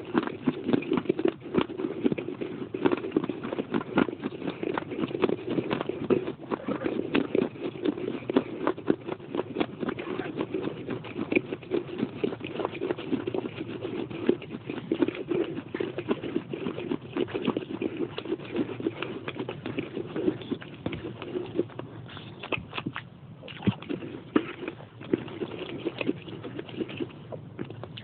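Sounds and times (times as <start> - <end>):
person chewing crunchy clay: 0.0 - 28.0.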